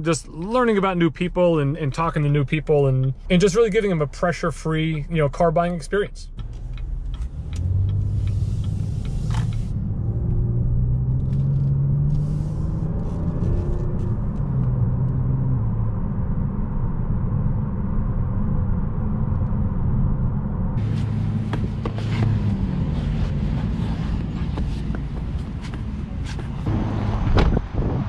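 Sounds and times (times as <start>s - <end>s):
car engine: 0.0s - 28.0s
road rumble: 0.0s - 28.0s.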